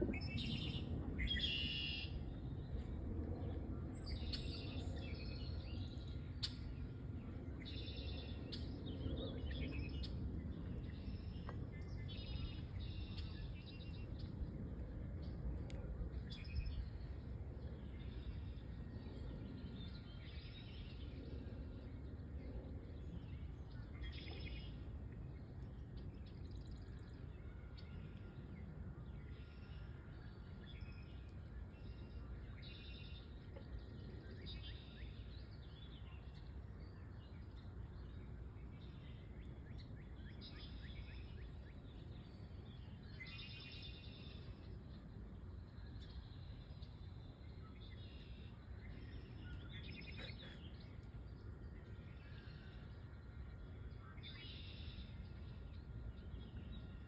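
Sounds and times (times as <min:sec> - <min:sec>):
low rumble: 0:00.0 - 0:57.0.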